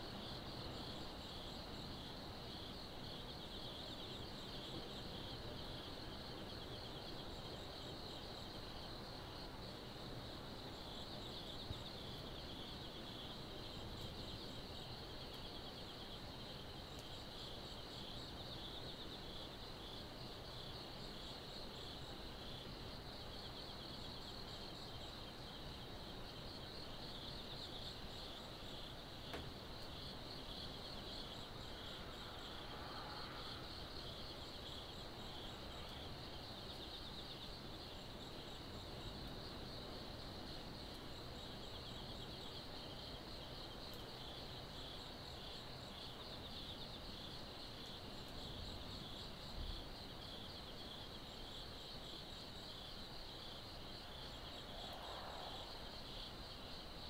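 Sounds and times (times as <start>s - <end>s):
crickets chirping: 0.0s - 57.0s
high insect chirps: 0.0s - 57.0s.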